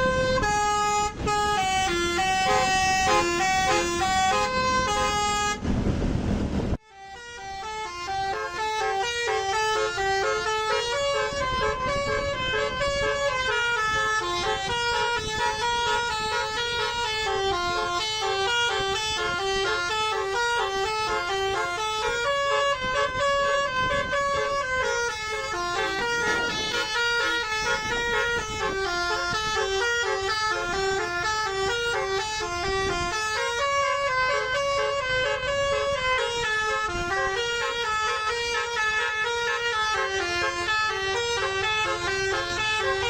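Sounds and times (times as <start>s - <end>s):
musical air horn tune: 0.0s - 5.7s, 6.8s - 43.0s.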